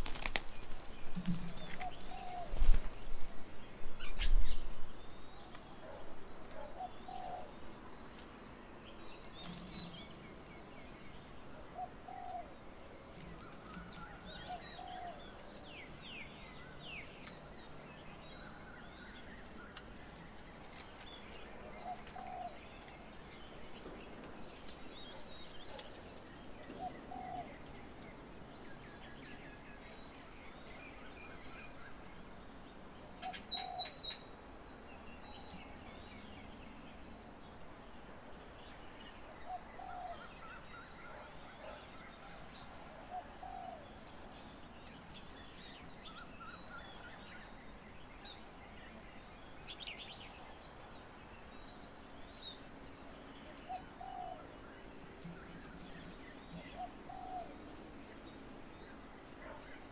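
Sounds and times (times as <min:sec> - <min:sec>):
birds calling and chirping: 0:00.0 - 0:37.6, 0:38.4 - 0:59.9.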